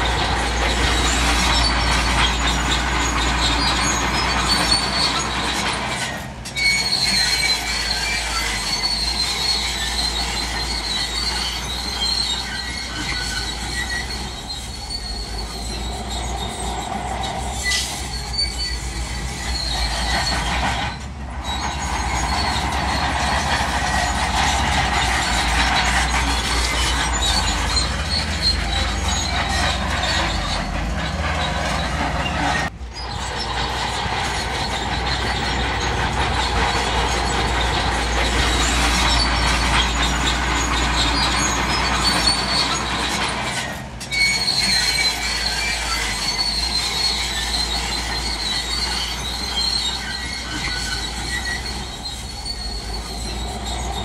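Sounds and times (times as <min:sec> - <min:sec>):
bulldozer diesel engine running: 0:00.0 - 0:54.0
crawler tracks squealing and clanking: 0:00.0 - 0:54.0.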